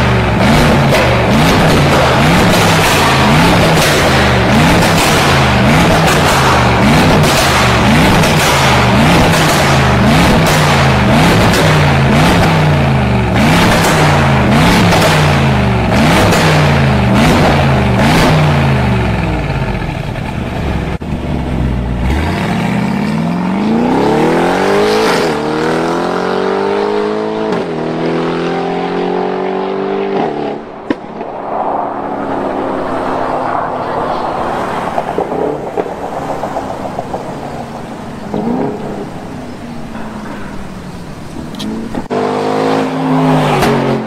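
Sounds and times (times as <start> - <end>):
exhaust crackles: 0.0 - 27.7, 30.1 - 42.2
engine revving: 0.0 - 40.5, 41.3 - 44.0
engine accelerating hard: 0.0 - 44.0.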